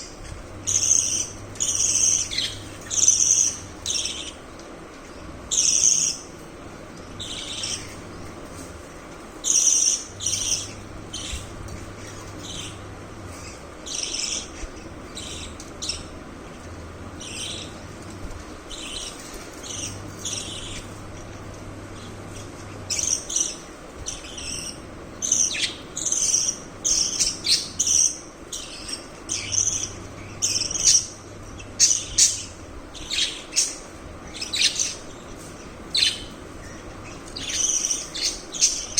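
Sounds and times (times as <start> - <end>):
budgerigars chirping: 0.0 - 4.4, 5.5 - 6.3, 7.2 - 8.7, 9.4 - 16.2, 17.2 - 17.8, 18.7 - 21.0, 22.0 - 38.9
faint low hum: 0.0 - 38.9.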